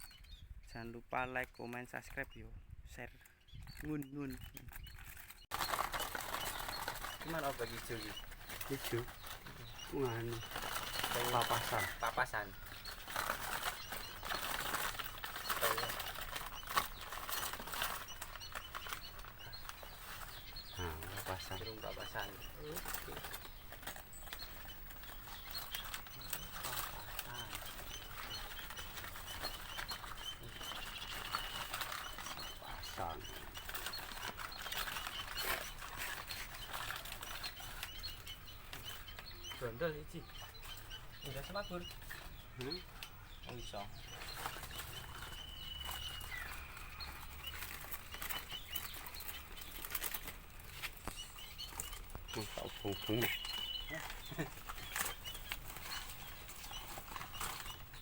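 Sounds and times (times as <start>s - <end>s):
small birds chirping: 0.0s - 58.0s
rustling: 3.2s - 58.0s
wings flapping: 3.7s - 58.0s.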